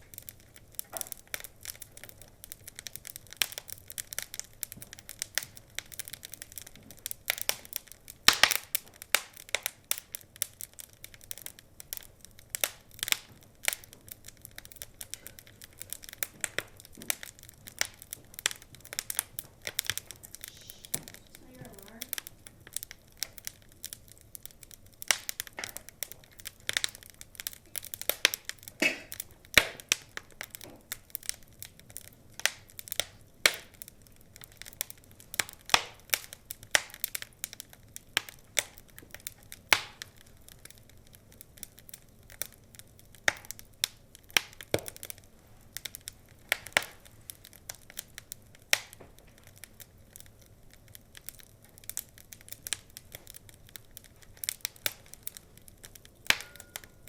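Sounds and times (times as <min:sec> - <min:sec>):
faint low hiss: 0:00.0 - 0:57.0
wood fire crackling: 0:00.0 - 0:57.0.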